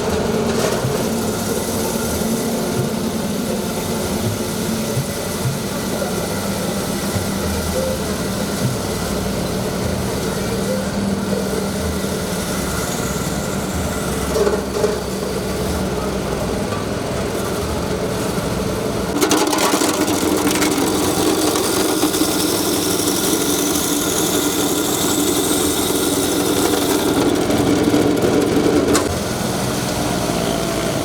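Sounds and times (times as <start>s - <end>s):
ice crusher machine running: 0.0s - 31.0s.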